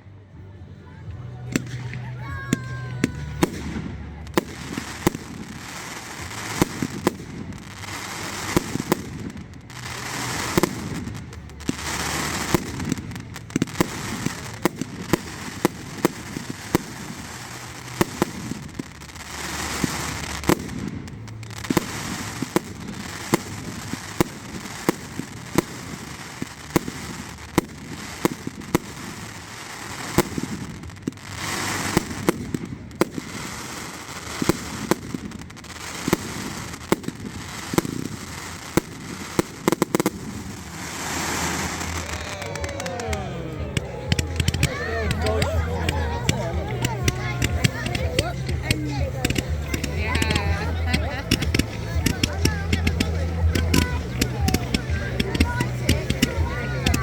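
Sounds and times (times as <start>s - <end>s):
fireworks crackling and hissing: 0.0s - 57.0s
fireworks bangs: 1.4s - 57.0s.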